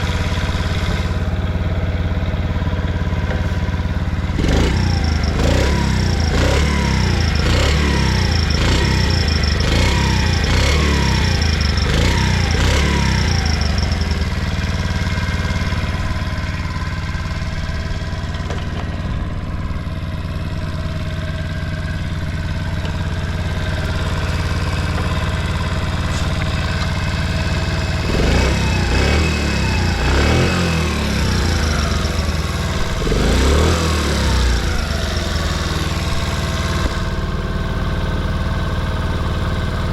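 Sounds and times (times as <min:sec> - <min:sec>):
small engine revving and idling: 0:00.0 - 0:39.9.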